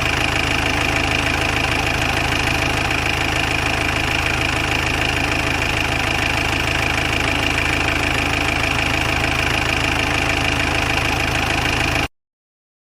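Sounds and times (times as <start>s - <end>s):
car engine idling: 0.0s - 12.1s.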